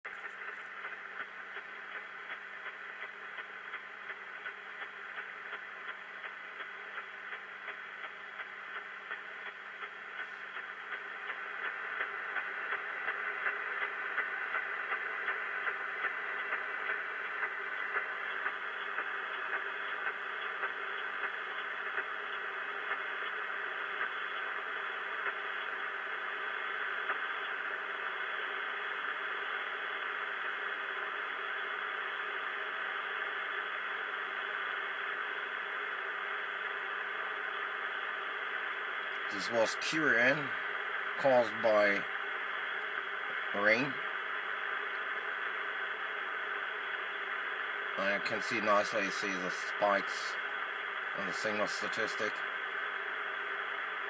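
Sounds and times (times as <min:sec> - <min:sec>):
radio receiver hiss: 0:00.1 - 0:54.0.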